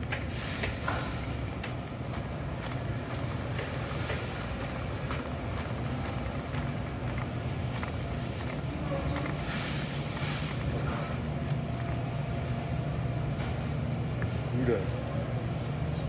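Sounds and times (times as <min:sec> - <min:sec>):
store background rumble: 0:00.0 - 0:16.0.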